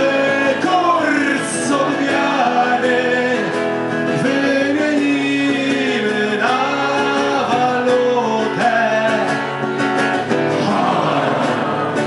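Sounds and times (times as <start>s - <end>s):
man singing: 0.0s - 9.8s, 10.5s - 12.0s
acoustic guitar: 0.0s - 12.0s.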